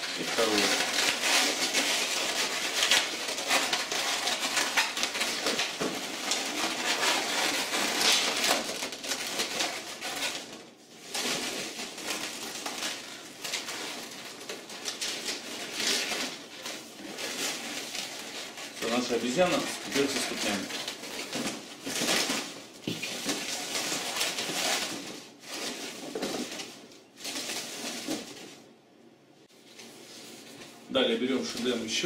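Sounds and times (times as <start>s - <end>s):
balloons squeaking and rubbing: 0.0s - 28.3s.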